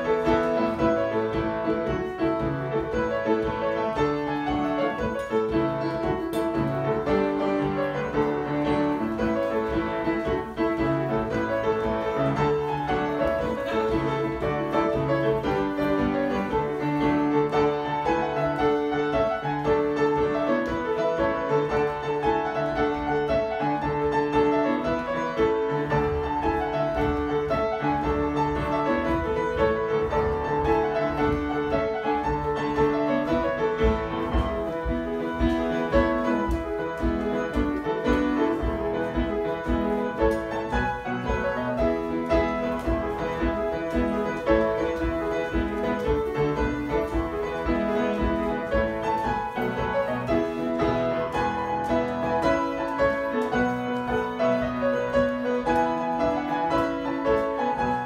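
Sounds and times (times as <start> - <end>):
piano playing a jig: 0.0 - 58.0.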